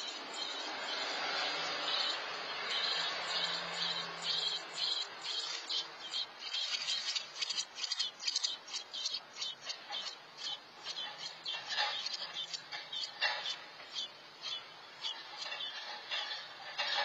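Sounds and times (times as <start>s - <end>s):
nestlings chirping: 0.0s - 16.4s.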